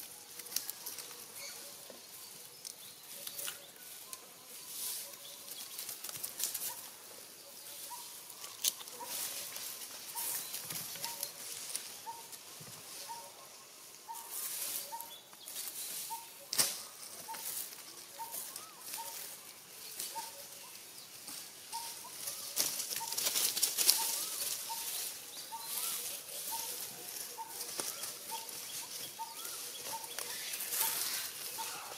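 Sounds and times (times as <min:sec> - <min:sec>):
dry leaves rustling and crackling: 0:00.0 - 0:31.9.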